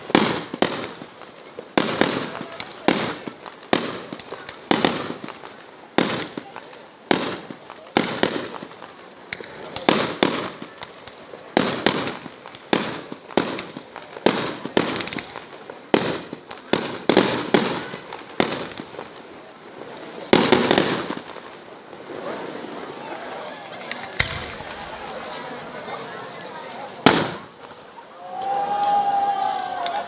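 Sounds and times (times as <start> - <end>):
fireworks exploding: 0.0 - 30.0.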